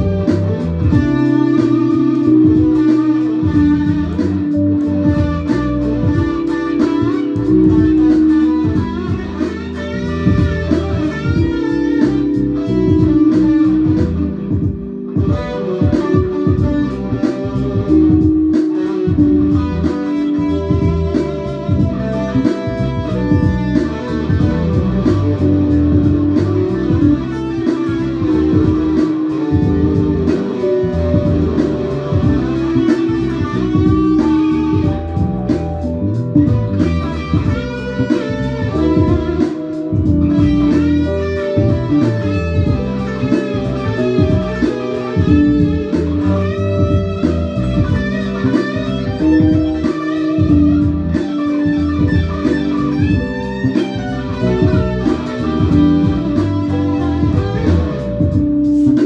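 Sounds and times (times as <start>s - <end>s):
electric guitar melody: 0.0s - 59.0s.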